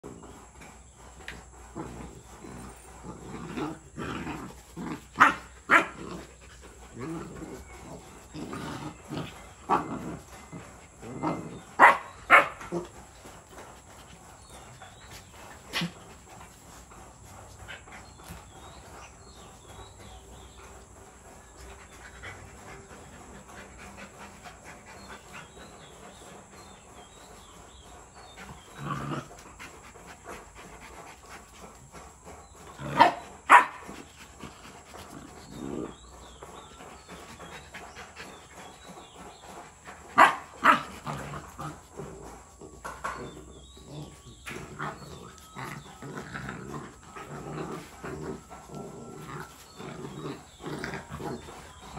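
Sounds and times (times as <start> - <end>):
dogs barking and growling: 0.0 - 51.9.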